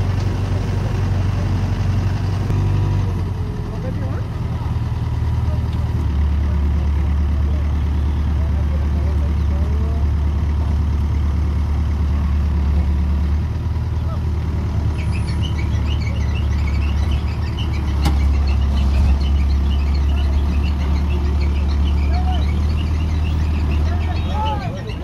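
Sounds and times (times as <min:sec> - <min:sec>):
diesel engine running under load: 0:00.0 - 0:25.0.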